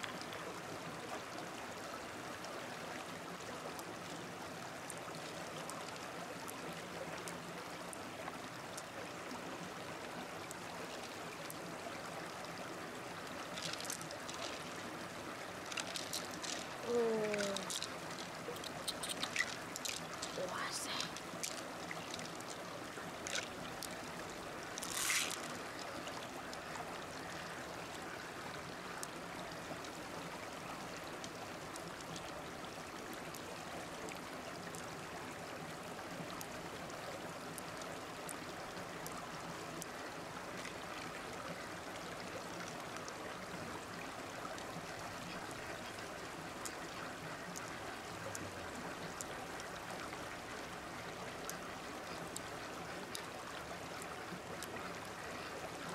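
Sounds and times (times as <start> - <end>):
stream water over rocks: 0.0 - 55.9.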